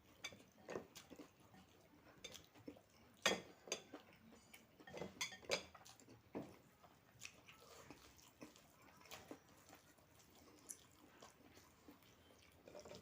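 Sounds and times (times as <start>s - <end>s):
person chewing: 0.2s - 13.0s.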